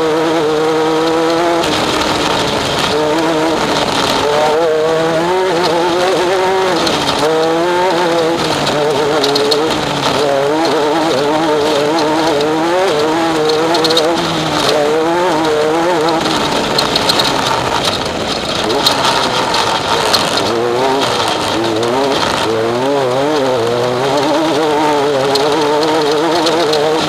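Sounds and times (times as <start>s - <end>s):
race vehicle engine revving: 0.0s - 27.0s
road and wind noise hiss: 0.0s - 27.0s.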